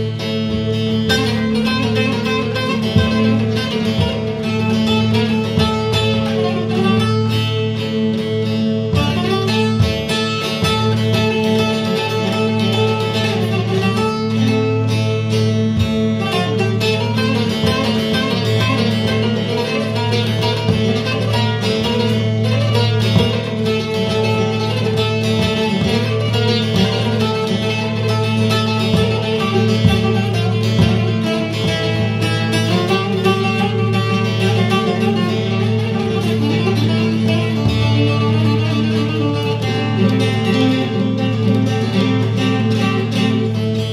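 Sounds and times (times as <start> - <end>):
plucked string instrument music: 0.0 - 43.9.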